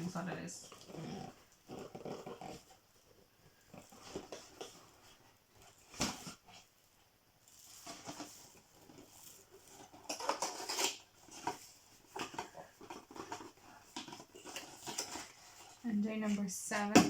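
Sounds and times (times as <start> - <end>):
cardboard packaging rustling: 0.0 - 16.5.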